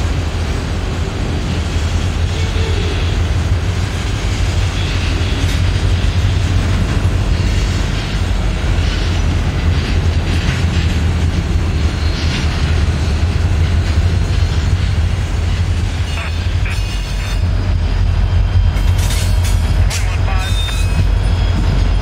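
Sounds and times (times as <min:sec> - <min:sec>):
diesel locomotives rumbling past: 0:00.0 - 0:22.0.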